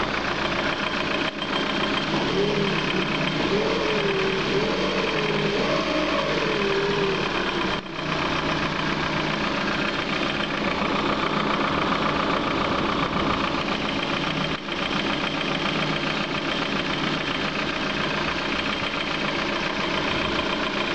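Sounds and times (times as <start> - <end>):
car engine idling: 0.0 - 20.9
knocking inside engine: 0.0 - 20.9.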